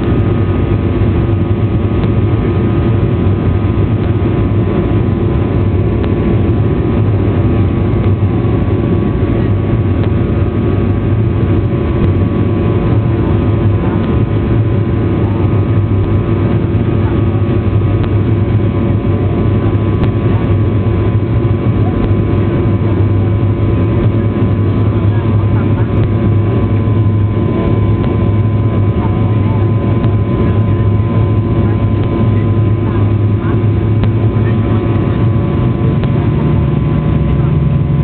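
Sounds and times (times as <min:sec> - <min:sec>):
jet engine drone in cabin: 0:00.0 - 0:38.0.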